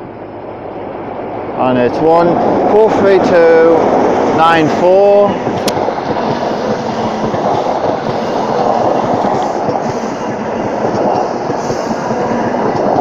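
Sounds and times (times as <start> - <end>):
diesel train rumbling past: 0.0 - 13.0.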